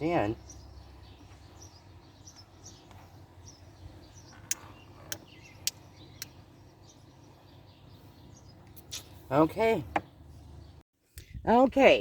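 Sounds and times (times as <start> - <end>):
faint birds chirping: 0.0 - 11.4.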